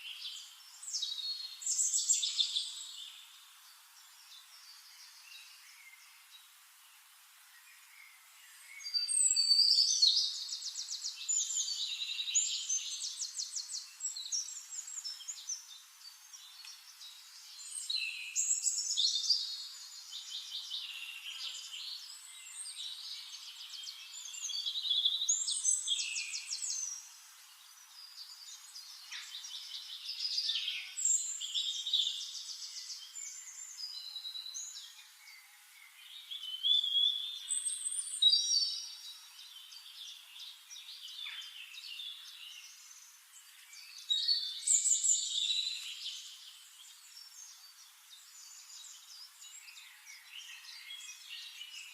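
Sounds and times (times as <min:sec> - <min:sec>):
songbird singing trills: 0:00.0 - 0:06.6, 0:07.5 - 0:51.9.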